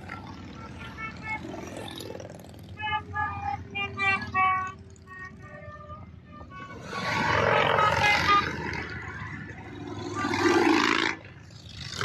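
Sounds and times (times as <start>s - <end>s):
motorcycles passing loudly: 0.0s - 12.0s.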